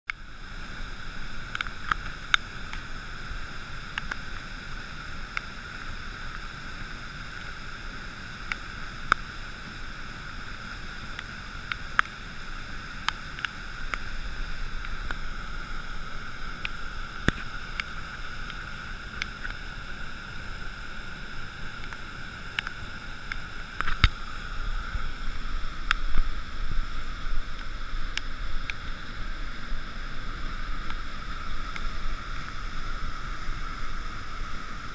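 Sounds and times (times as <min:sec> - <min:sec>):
river rushing over a weir: 0:00.2 - 0:34.9.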